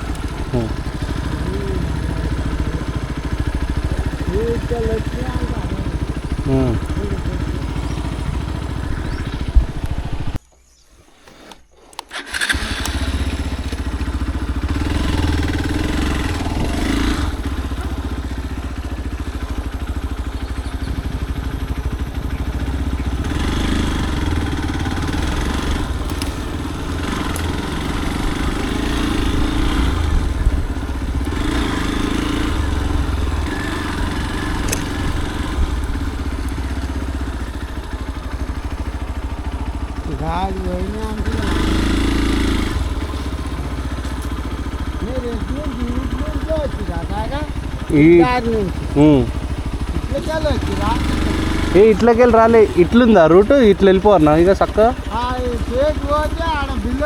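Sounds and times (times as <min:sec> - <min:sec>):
motorcycle engine running: 0:00.0 - 0:10.5, 0:12.1 - 0:57.0.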